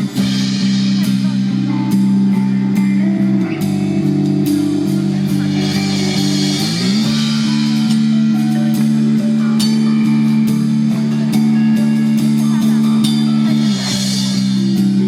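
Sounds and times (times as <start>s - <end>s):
drum kit steady beat: 0.0s - 15.0s
guitar: 0.0s - 15.0s.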